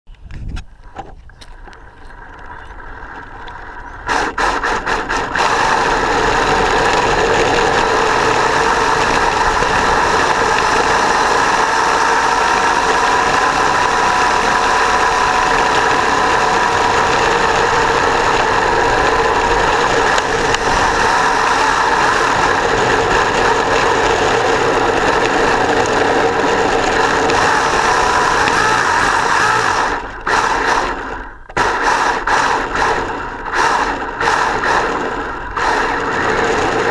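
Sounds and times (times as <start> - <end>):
gears and tyres on asphalt: 0.1 - 36.9
electric motor whine: 2.0 - 36.9.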